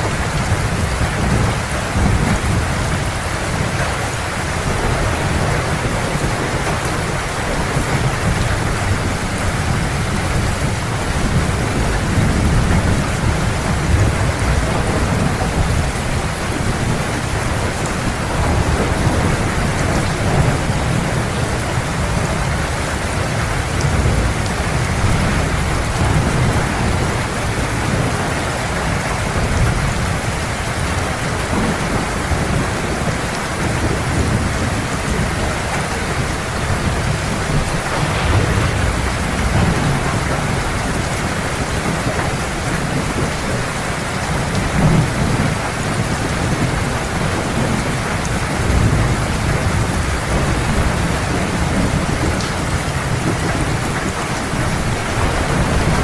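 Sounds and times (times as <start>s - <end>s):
heavy rain: 0.0s - 56.0s
low rumble of thunder: 0.0s - 56.0s.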